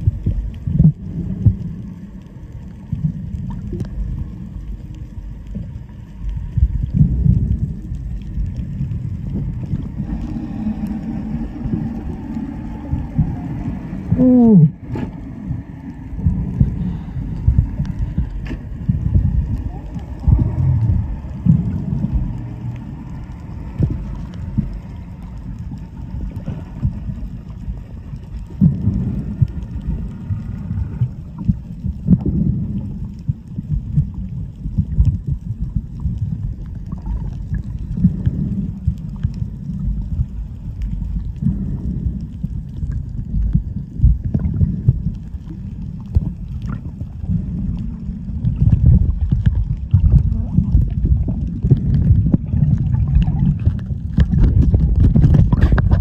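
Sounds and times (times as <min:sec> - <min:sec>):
muffled underwater churning: 0:00.0 - 0:56.0.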